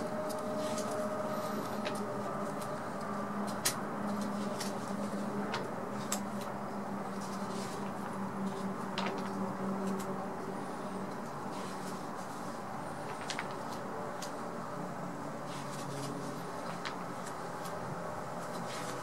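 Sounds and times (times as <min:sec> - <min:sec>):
plastic album pages turning: 0:00.0 - 0:10.2, 0:11.6 - 0:14.4, 0:15.5 - 0:17.8
steady hum: 0:00.0 - 0:19.0.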